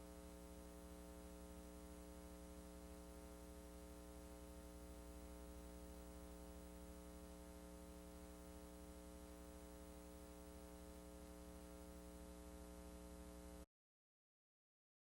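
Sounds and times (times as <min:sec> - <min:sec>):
faint mains hum: 0:00.0 - 0:13.7.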